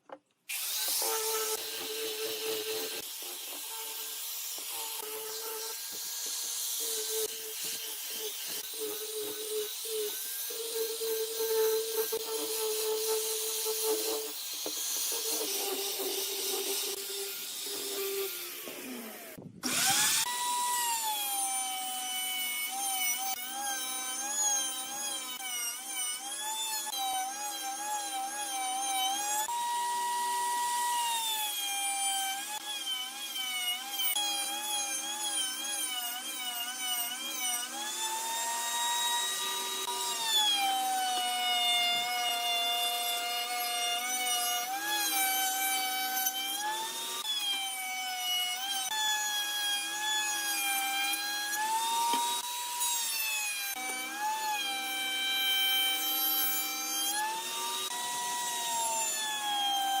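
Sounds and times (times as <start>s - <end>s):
electric power tool cutting wood: 0.1s - 60.0s.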